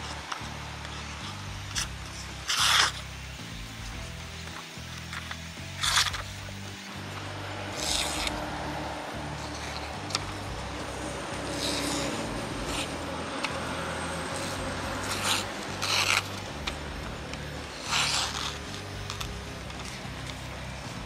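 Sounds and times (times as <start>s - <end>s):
knife slicing paper: 0.2s - 3.3s, 4.0s - 6.6s, 7.2s - 21.0s.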